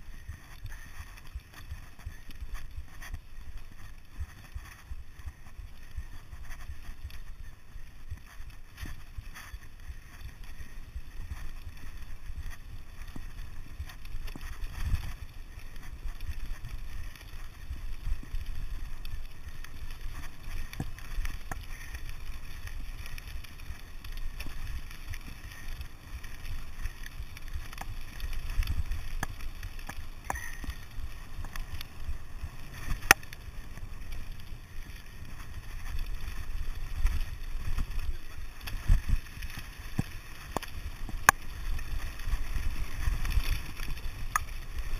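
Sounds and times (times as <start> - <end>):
bike tyres rumbling on gravel: 0.0 - 44.9.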